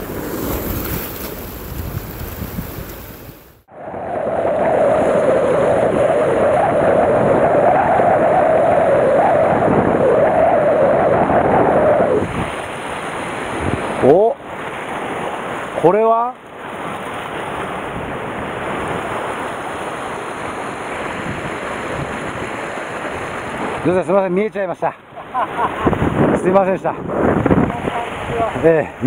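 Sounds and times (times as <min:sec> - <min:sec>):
wind buffeting microphone: 0:00.0 - 0:15.8, 0:16.6 - 0:24.0, 0:25.0 - 0:29.0
surf washing over rocks: 0:00.0 - 0:29.0.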